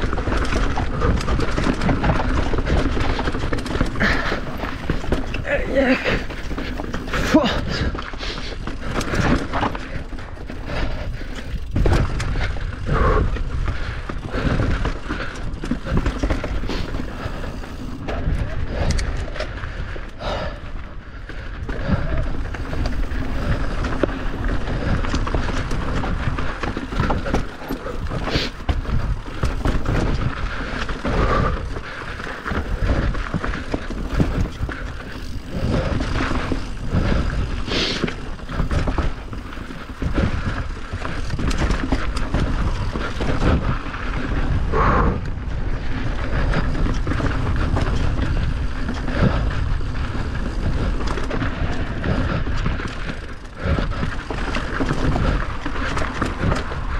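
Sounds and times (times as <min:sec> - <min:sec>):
bike rattling over bumps: 0:00.0 - 0:56.9
wind and tyre noise: 0:00.0 - 0:56.9.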